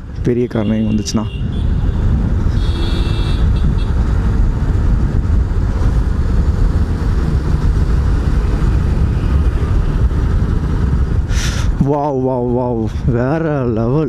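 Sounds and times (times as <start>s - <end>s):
motorcycle road noise: 0.0s - 14.0s
wind rush: 0.0s - 14.0s.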